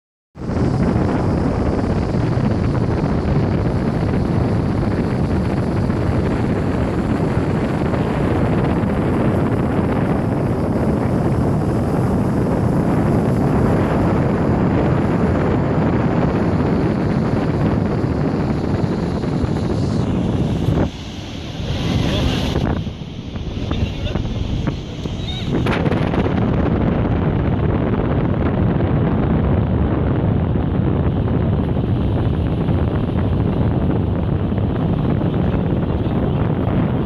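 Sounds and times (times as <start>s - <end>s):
wind buffeting microphone: 0.4s - 37.0s.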